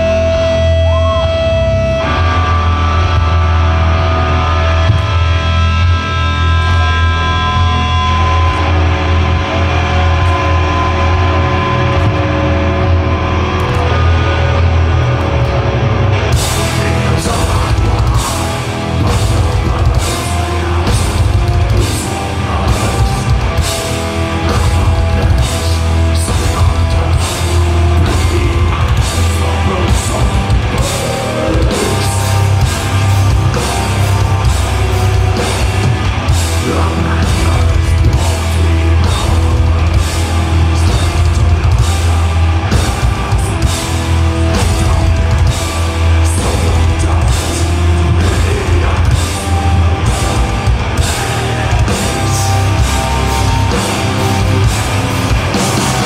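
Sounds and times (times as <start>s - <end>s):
distorted guitar and bass: 0.0s - 56.0s
pounding drum kit: 0.0s - 56.0s.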